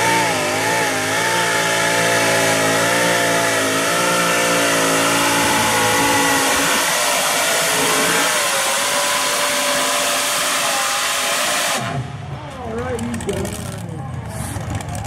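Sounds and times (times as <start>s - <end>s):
tractor engine at high revs: 0.0s - 15.0s.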